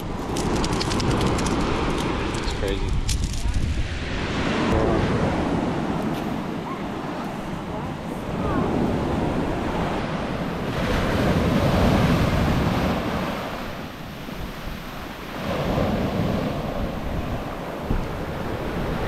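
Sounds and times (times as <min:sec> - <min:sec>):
ocean surf washing up beach: 0:00.0 - 0:19.0.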